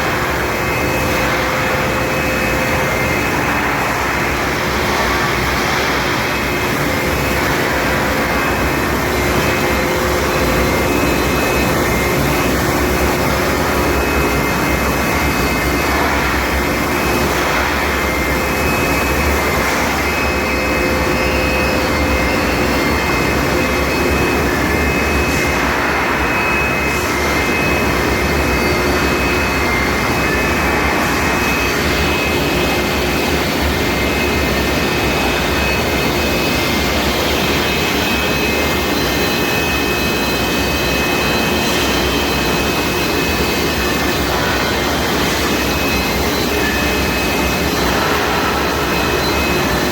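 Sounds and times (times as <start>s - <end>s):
faint high whine: 0.0s - 49.9s
industrial machinery rushing din: 0.0s - 49.9s.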